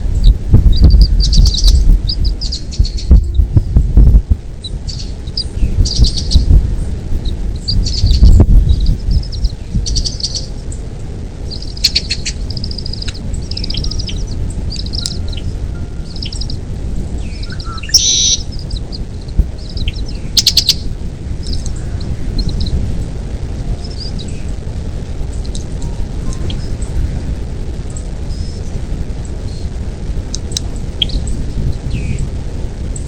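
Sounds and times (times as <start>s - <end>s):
birds chirping and trilling: 0.0s - 29.8s, 30.4s - 33.0s
steady low rumble: 0.0s - 33.0s.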